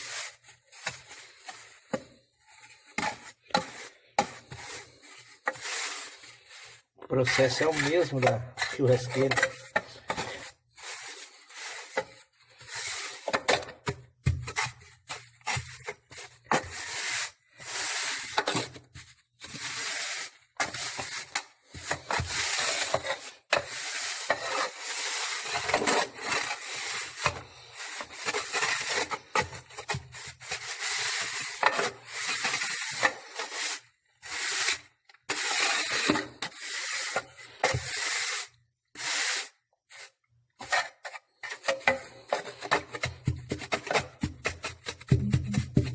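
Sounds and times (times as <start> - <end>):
tool scraping through loose salt: 0.0 - 1.8, 2.5 - 13.6, 15.4 - 18.8, 19.4 - 45.8.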